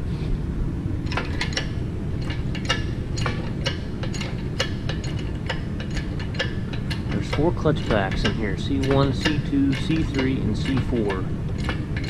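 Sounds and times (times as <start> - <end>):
steady low rumble: 0.0 - 12.0
chain hoist clicking: 1.1 - 12.0.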